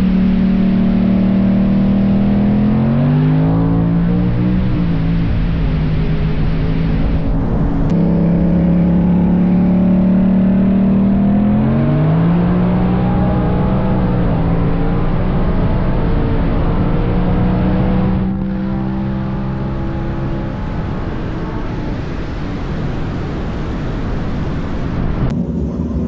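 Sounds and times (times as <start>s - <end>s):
sports car engine at full throttle: 0.0s - 26.0s.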